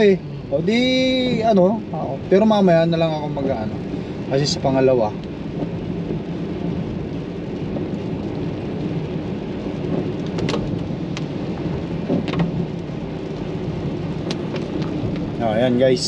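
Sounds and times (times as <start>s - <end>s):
engine and road hum: 0.0s - 16.0s
rain on a car: 0.0s - 16.0s.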